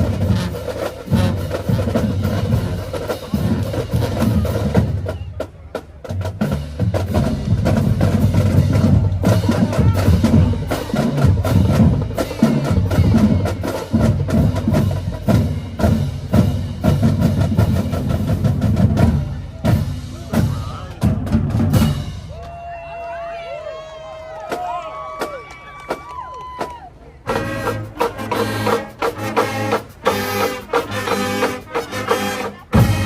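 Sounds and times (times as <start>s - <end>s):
snare and bass drums: 0.0s - 22.7s, 24.4s - 33.0s.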